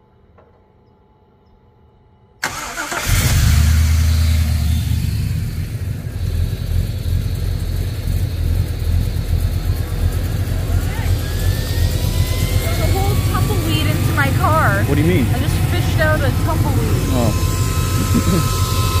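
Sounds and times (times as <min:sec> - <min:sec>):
car engine cranking: 0:02.4 - 0:19.0
car engine idling: 0:02.4 - 0:19.0.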